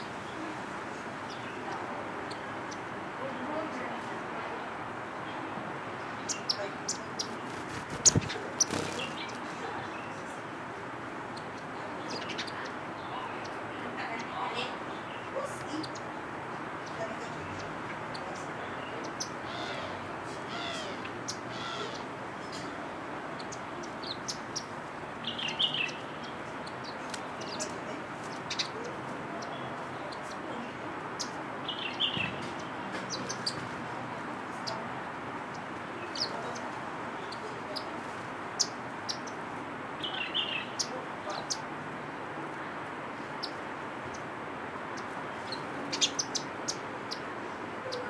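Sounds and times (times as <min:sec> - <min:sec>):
small birds chirping: 0:00.0 - 0:48.0
steady background noise: 0:00.0 - 0:48.0.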